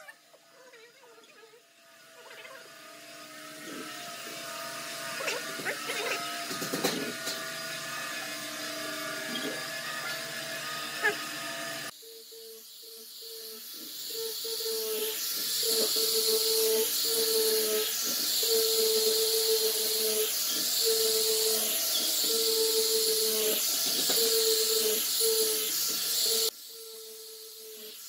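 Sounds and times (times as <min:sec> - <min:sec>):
angle grinder motor hum: 0:00.0 - 0:28.0
sanding drum hissing on wood: 0:01.6 - 0:28.0.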